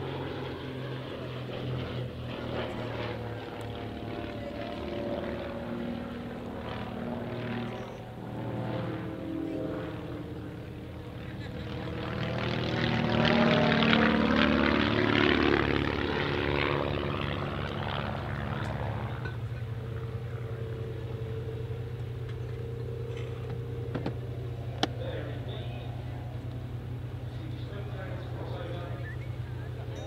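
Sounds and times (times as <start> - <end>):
propeller aircraft flying past: 0.0 - 30.0.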